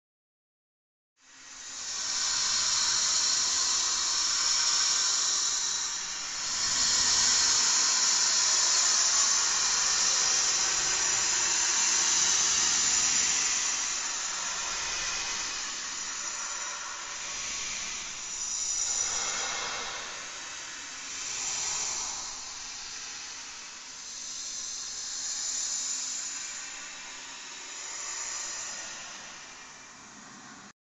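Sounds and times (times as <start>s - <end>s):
continuous hissing noise: 1.2s - 30.7s.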